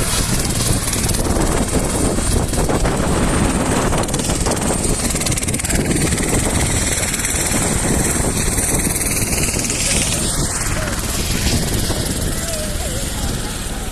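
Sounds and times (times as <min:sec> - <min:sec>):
helicopter engine and rotor: 0:00.0 - 0:13.9.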